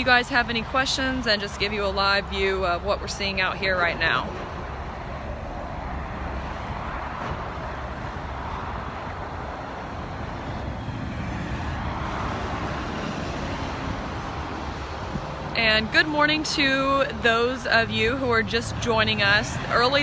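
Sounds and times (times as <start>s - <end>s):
highway traffic passing: 0.0s - 20.0s.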